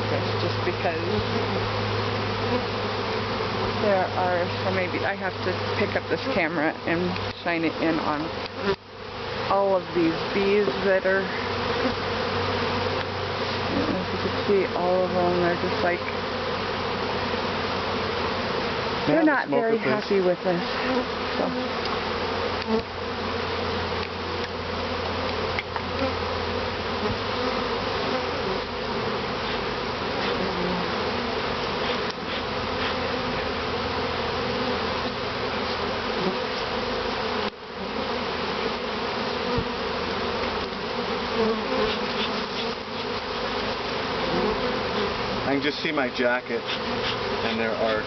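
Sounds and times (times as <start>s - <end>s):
honey bees buzzing: 0.0s - 48.0s.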